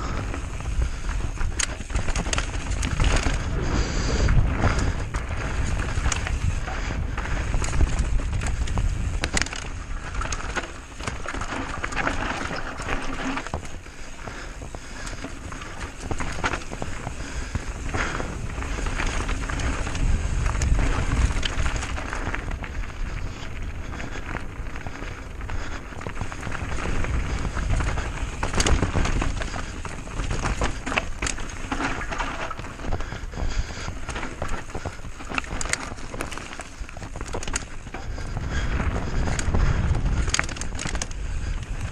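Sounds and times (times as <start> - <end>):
bike rattling and knocking: 0.0 - 41.9
tyres rolling over dirt and stones: 0.0 - 41.9
wind rumble on microphone: 0.0 - 41.9.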